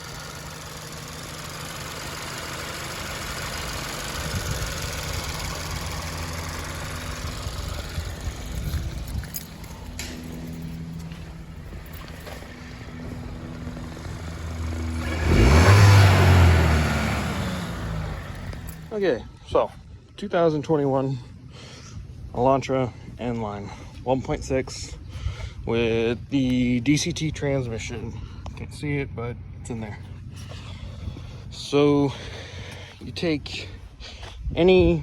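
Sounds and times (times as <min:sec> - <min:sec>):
car engine running: 0:00.0 - 0:34.3.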